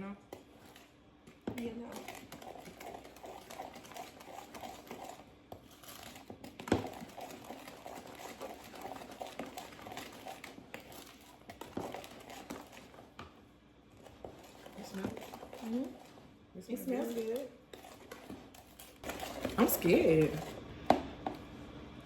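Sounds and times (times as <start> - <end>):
utensil stirring in bowl: 0.0 - 21.4.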